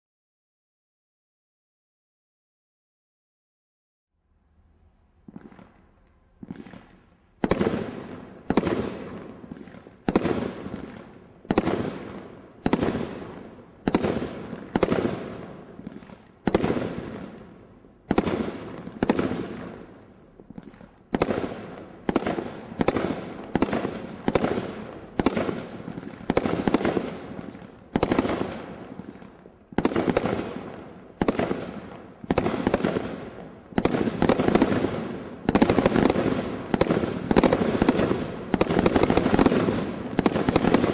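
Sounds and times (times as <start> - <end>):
roman candle firing shots: 6.4 - 19.9, 21.1 - 40.9.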